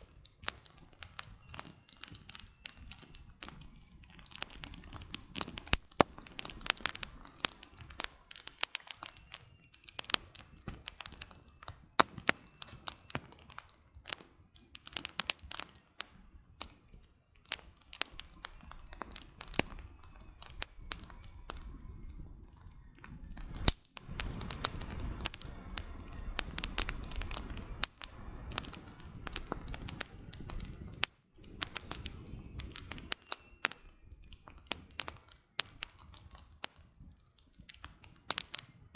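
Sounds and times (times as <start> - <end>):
campfire crackling and popping: 0.0 - 38.9
low rush of flame: 0.0 - 38.9.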